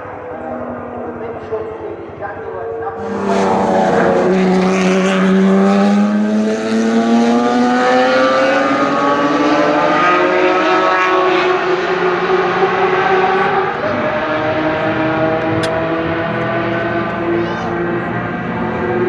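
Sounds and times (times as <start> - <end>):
racing car engine accelerating: 0.0 - 19.0.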